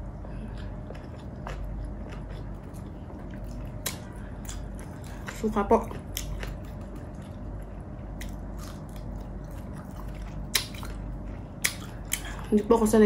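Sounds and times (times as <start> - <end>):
person chewing: 0.0 - 12.5.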